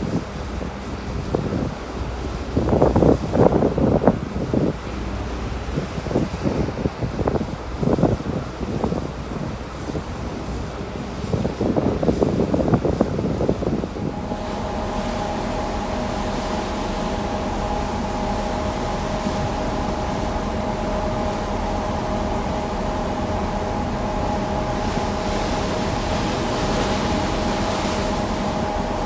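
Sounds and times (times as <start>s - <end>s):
ship machinery humming: 0.0s - 29.0s
water rushing along ship hull: 0.0s - 29.0s.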